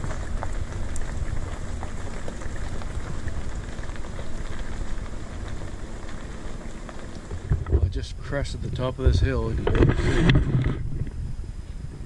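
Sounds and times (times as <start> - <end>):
tyres crackling on gravel: 0.0 - 11.2
truck engine rumble: 0.0 - 12.0.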